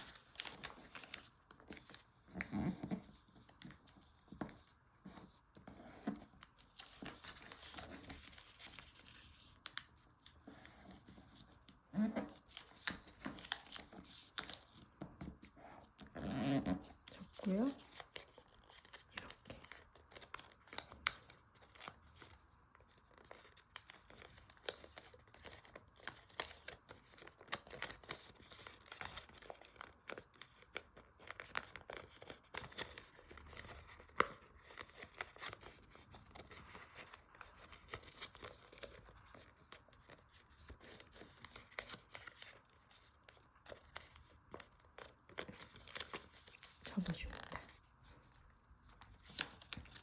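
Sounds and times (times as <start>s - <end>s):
paper being folded and creased: 0.0s - 50.0s.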